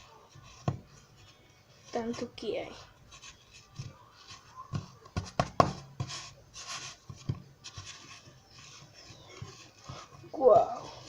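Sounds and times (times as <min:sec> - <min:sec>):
hands rubbing and pressing dough: 0:00.0 - 0:11.0.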